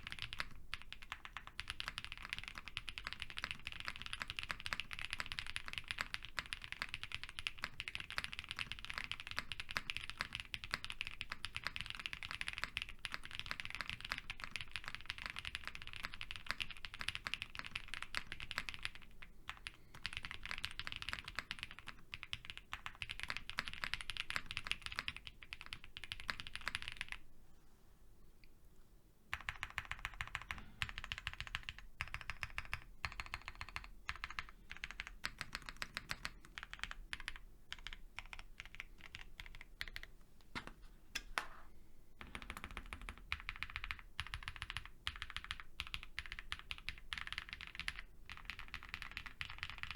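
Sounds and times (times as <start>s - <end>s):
mechanical keyboard typing: 0.0s - 27.2s, 29.3s - 40.1s, 42.2s - 49.9s.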